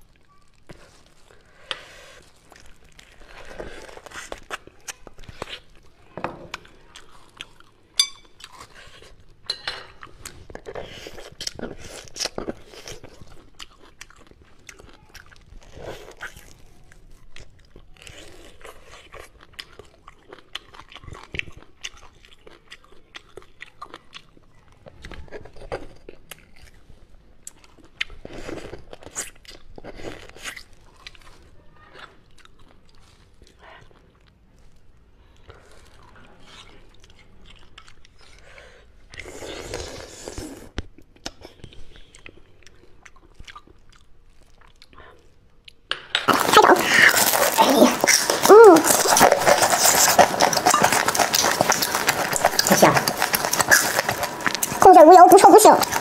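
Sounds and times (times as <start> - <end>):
chewing and sucking mouth sounds: 0.0 - 56.0.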